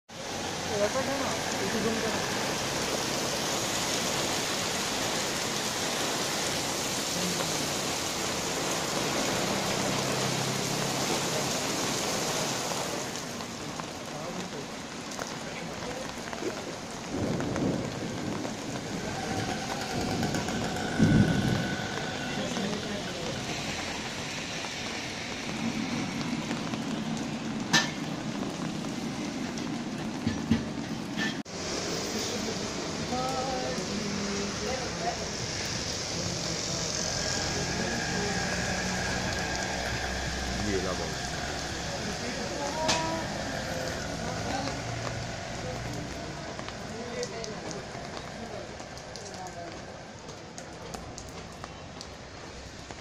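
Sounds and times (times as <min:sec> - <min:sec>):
heavy rain on wet street: 0:00.1 - 0:53.0.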